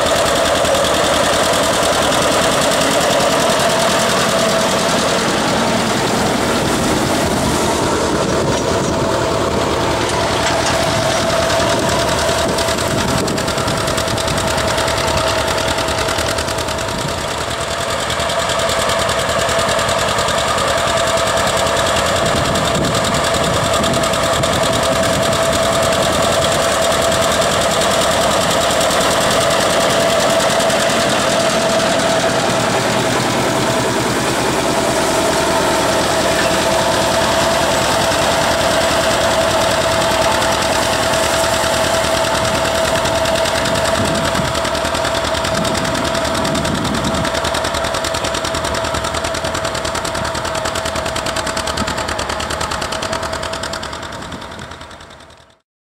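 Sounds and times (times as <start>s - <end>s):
steady whining tone: 0.0s - 19.2s, 19.9s - 54.8s
tractor engine popping exhaust: 0.0s - 55.6s.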